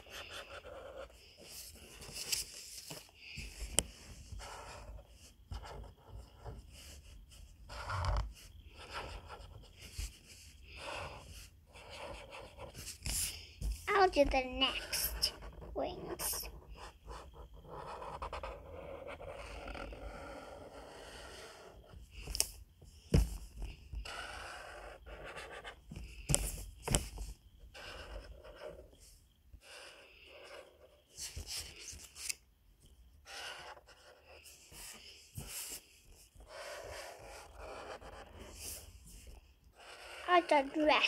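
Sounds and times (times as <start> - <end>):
marker scratching on paper: 0.0 - 22.5, 23.1 - 32.4, 33.2 - 41.0.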